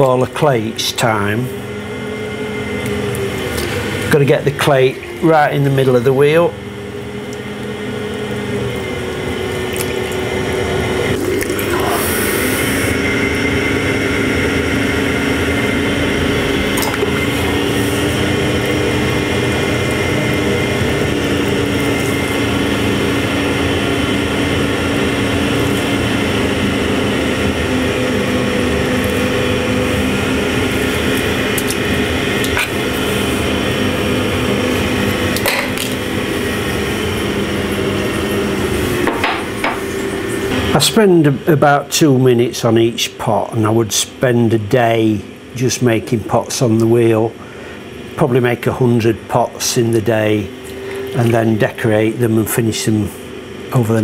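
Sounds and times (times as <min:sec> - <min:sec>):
potter's wheel motor humming: 0:00.0 - 0:54.0.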